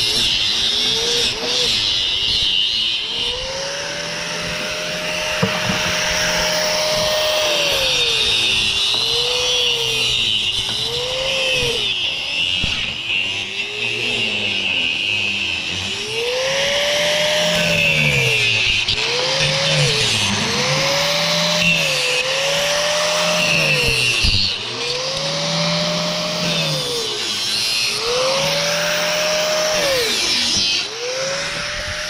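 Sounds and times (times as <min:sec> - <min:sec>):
power tool motor revving: 0:00.0 - 0:32.0
rasping cutting noise: 0:00.0 - 0:32.0.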